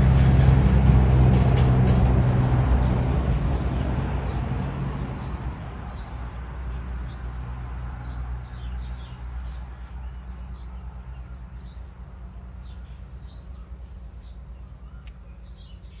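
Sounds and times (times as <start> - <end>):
low steady rumble: 0.0 - 16.0
small birds chirping: 2.1 - 16.0.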